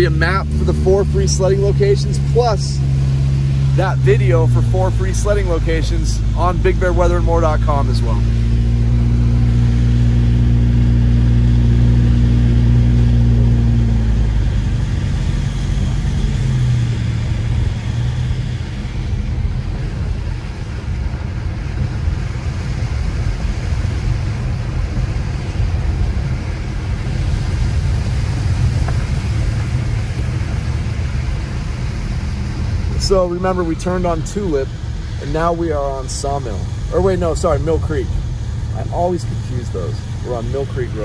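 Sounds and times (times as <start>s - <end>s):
car engine hum: 0.0s - 41.0s
tyre and road noise: 0.0s - 41.0s.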